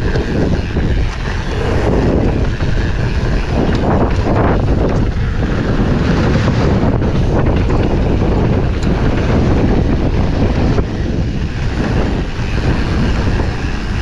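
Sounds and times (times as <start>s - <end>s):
mountain bike rumble and rattle: 0.0s - 14.0s
wind on microphone: 0.0s - 14.0s.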